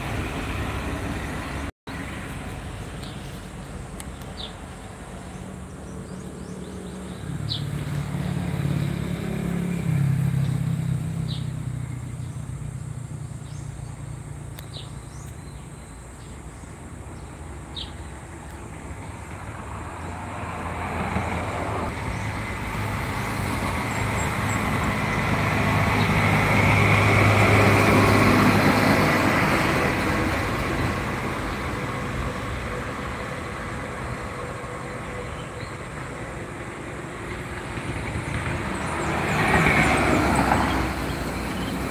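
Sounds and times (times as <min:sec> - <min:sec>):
vehicles passing by: 0:00.0 - 0:41.9.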